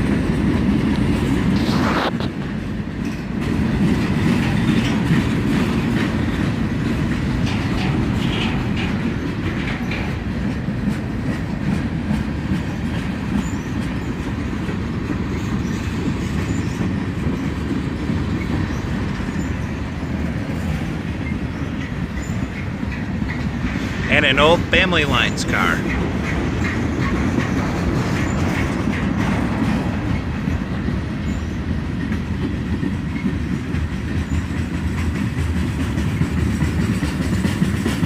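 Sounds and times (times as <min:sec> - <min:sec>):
freight train wheels rumbling: 0:00.0 - 0:38.0
wheels clacking over rail joints: 0:00.0 - 0:38.0.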